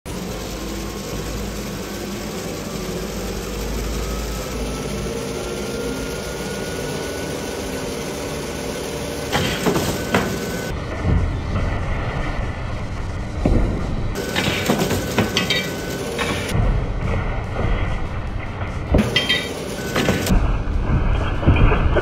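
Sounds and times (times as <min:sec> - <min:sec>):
treadmill motor and belt running: 0:00.0 - 0:22.0.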